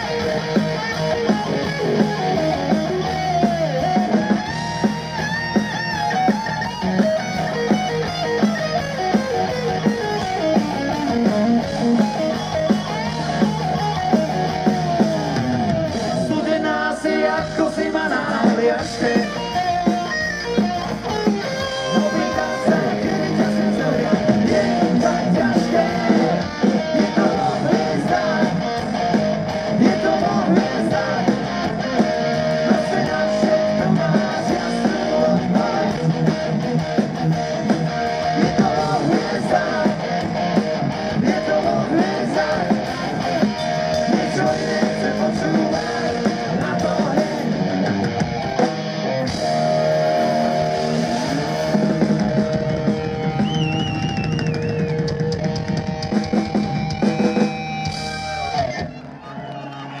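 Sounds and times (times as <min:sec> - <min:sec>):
bass guitar: 0:00.0 - 1:00.0
drum kit: 0:00.0 - 1:00.0
electric guitars: 0:00.0 - 1:00.0.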